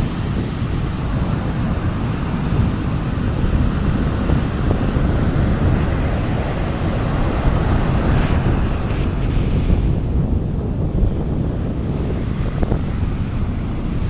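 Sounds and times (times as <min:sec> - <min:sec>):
sea waves washing on beach: 0:00.0 - 0:14.0
wind rumbling on microphone: 0:00.0 - 0:14.0.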